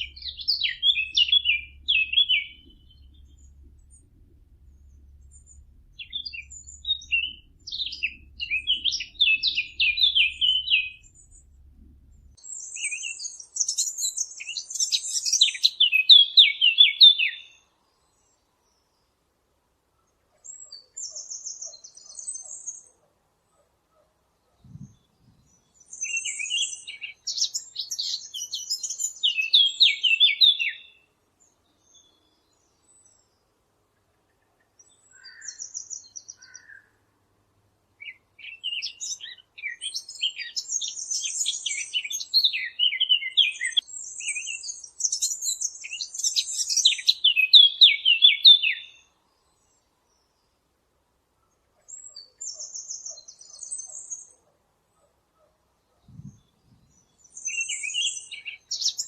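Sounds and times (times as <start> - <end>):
warbler singing: 0.0 - 19.0, 24.6 - 33.5, 34.7 - 36.9, 38.0 - 50.6, 51.9 - 54.4, 55.8 - 59.0.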